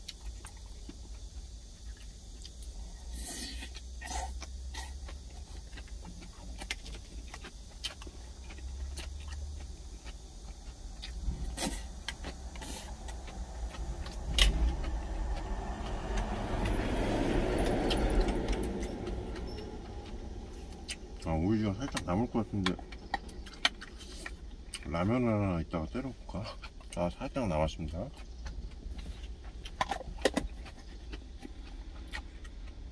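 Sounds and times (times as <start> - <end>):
chewing: 0.0 - 32.9
low steady rumble: 0.0 - 32.9.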